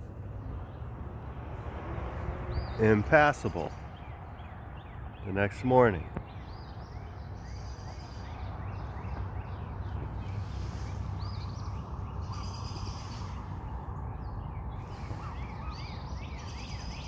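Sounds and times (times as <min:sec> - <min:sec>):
songbirds chirping and whistling: 0:00.0 - 0:17.0.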